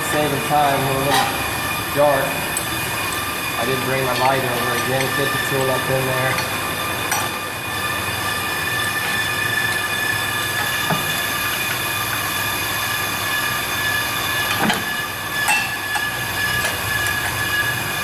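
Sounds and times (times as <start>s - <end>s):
brake lathe metallic whine: 0.0s - 18.0s.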